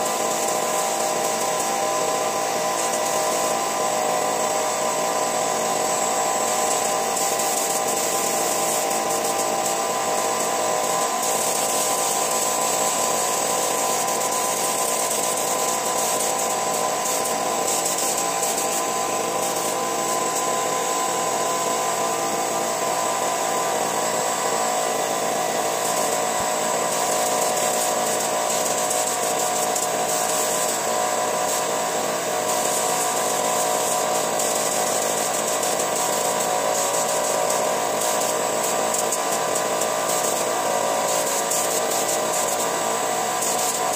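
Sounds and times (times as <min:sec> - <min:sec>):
air compressor humming: 0:00.0 - 0:43.9
spray gun hissing: 0:00.0 - 0:43.9.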